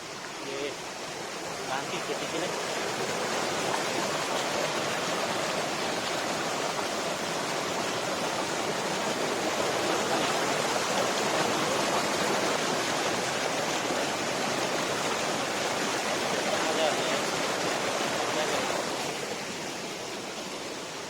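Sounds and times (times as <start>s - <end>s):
water rushing through channel: 0.0s - 21.0s.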